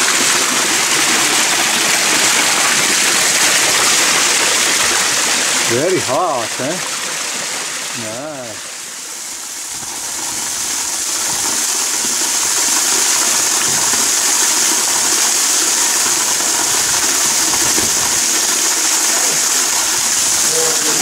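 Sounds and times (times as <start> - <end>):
hot spring water rushing: 0.0 - 21.0.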